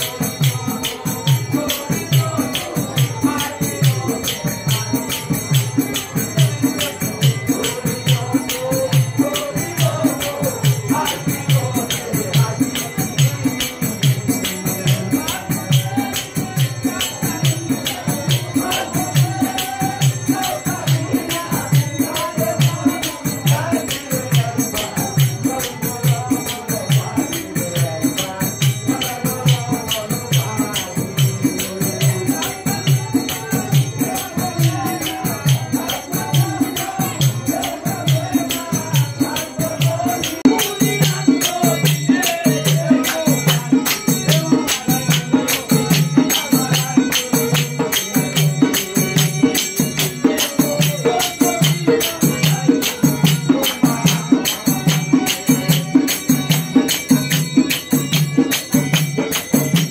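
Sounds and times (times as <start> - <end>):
dhol drum beating: 0.0 - 59.9
group of men singing: 0.0 - 59.9
hand cymbals jingling: 0.0 - 59.9
harmonium: 0.0 - 59.9.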